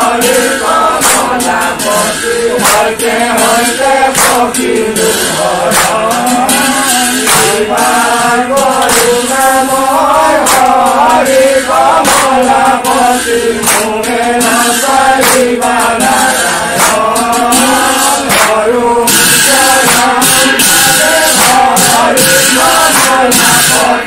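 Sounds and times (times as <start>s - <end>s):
hand clap: 0.0s - 24.0s
men chanting in unison: 0.0s - 24.0s.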